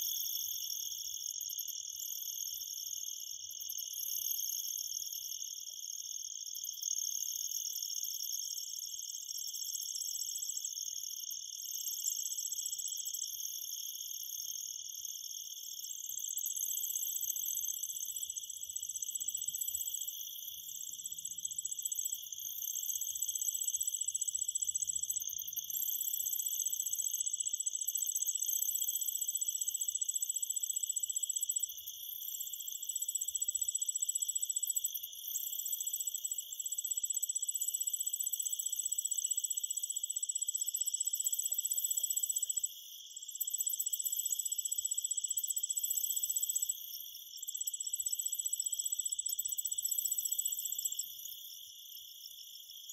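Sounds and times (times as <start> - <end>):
insect trill: 0.0 - 52.9.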